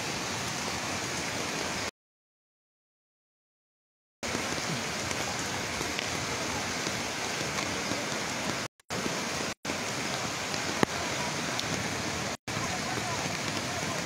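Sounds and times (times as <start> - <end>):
fast-flowing floodwater: 0.0 - 1.9, 4.2 - 14.0
rain hissing: 0.0 - 1.9, 4.2 - 14.0.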